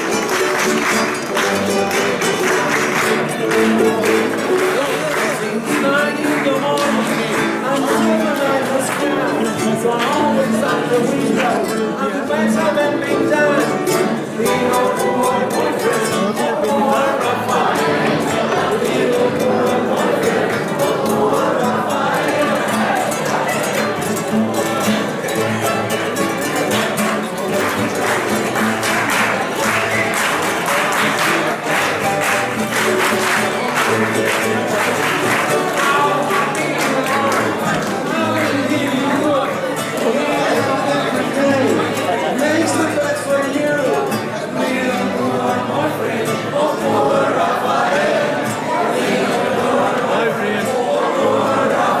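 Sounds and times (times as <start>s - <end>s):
people singing: 0.0s - 52.0s
plucked string accompaniment: 0.0s - 52.0s
strummed acoustic guitar: 0.0s - 52.0s.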